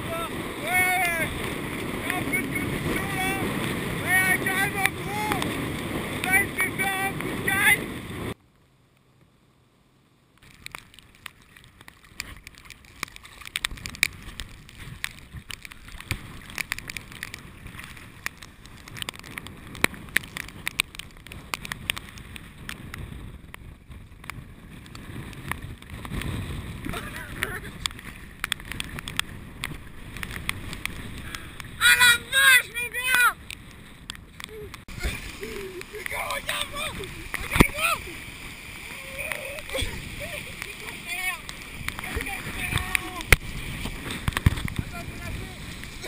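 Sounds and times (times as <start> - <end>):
wind buffeting microphone: 0.0 - 8.4, 13.4 - 46.0.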